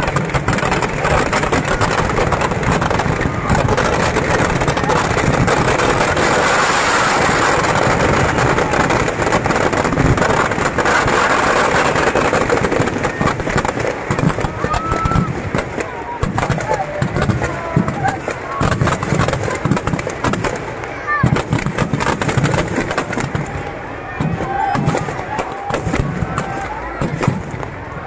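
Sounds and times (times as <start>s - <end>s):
firecracker bangs: 0.0s - 28.0s
firecrackers crackling: 0.0s - 28.0s.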